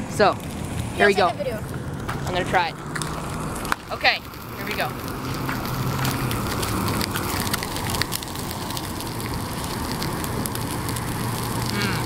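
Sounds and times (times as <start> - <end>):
fish sizzling in a pan: 0.5 - 12.0.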